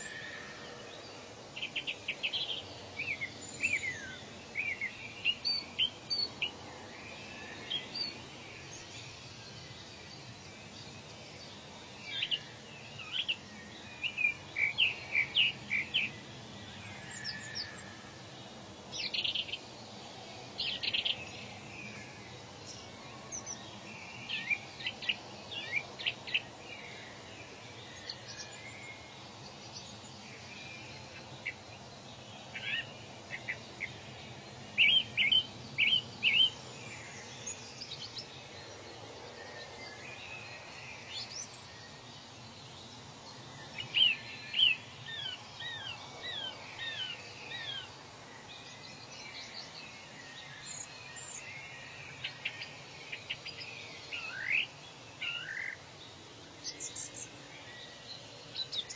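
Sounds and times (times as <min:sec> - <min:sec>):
birds chirping and trilling: 0:00.0 - 0:58.9
faint forest background hiss: 0:00.0 - 0:58.9.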